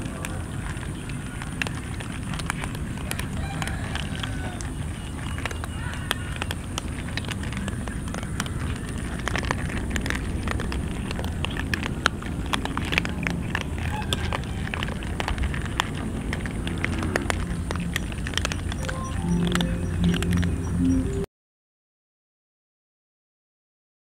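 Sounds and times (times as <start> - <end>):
cats crunching dry kibble: 0.0 - 20.7
low background rumble: 0.0 - 21.2.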